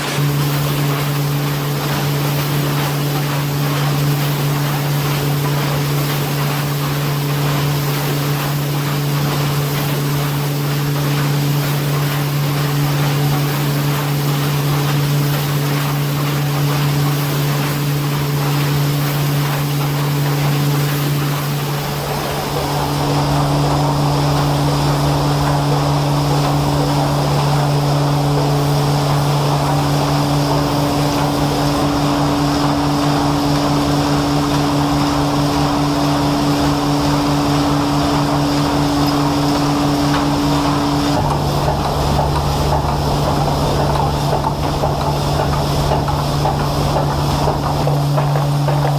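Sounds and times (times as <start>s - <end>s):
deep machinery rumble: 0.0s - 48.9s
industrial machinery humming: 0.0s - 48.9s.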